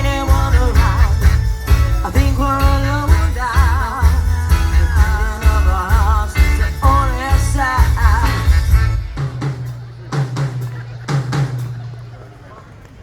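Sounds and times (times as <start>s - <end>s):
live band playing pop-rock: 0.0s - 12.1s.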